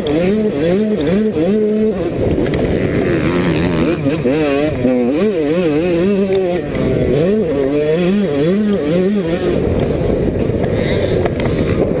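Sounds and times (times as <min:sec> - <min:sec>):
rough rushing noise: 0:00.0 - 0:12.0
two-stroke motocross engine revving: 0:00.0 - 0:12.0.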